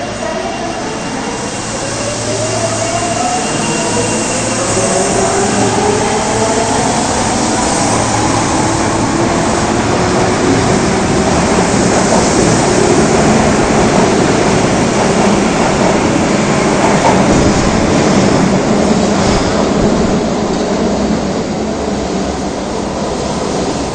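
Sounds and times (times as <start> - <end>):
train wheels running on rails: 0.7 - 23.9.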